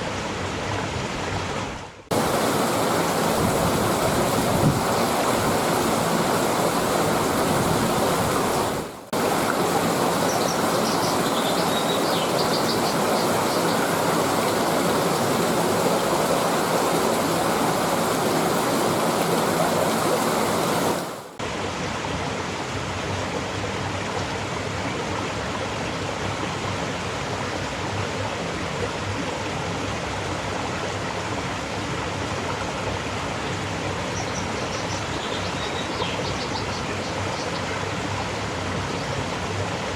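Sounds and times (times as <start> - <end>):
rushing stream water: 0.0 - 39.9.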